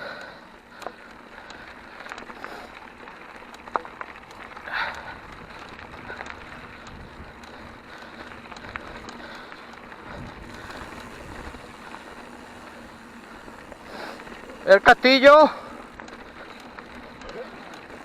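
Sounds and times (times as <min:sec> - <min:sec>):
bike clicks and rattles: 0:00.0 - 0:18.0
bike tyres crackling on gravel: 0:00.0 - 0:18.0.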